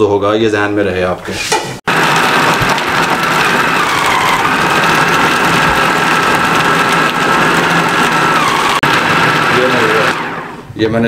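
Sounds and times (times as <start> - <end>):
food processor whining: 1.9 - 10.8.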